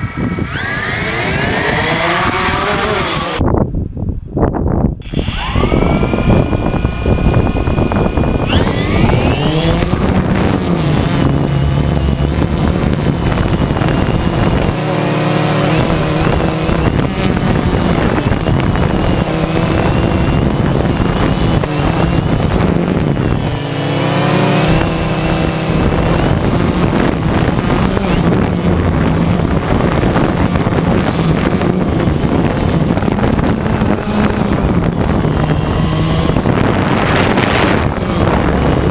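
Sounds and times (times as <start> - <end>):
drone propellers whining: 0.0 - 3.4, 5.0 - 38.9
wind on microphone: 0.0 - 38.9.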